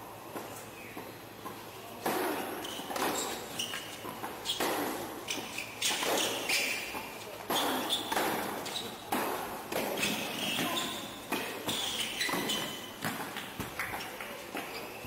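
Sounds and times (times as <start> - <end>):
shoes squeaking on court: 0.4 - 15.0
rackets striking tennis ball: 1.4 - 14.9.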